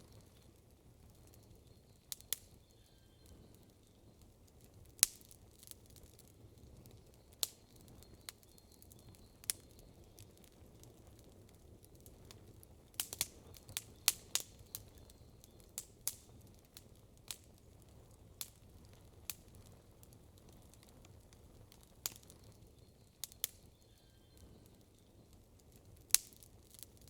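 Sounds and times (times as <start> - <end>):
wood campfire crackling: 0.0 - 27.0.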